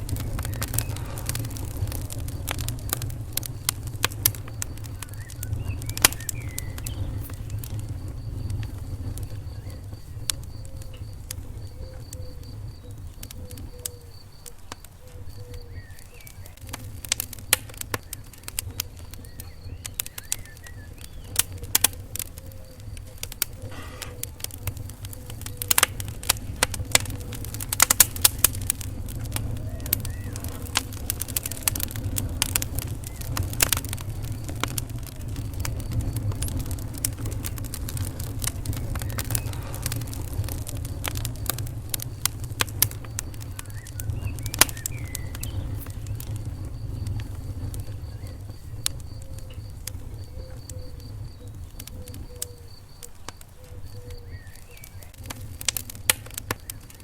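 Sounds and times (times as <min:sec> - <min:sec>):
low steady rumble: 0:00.0 - 0:13.4, 0:16.5 - 0:50.4
sharp pops of fire: 0:00.0 - 0:57.0
wood fire crackling: 0:00.0 - 0:57.0.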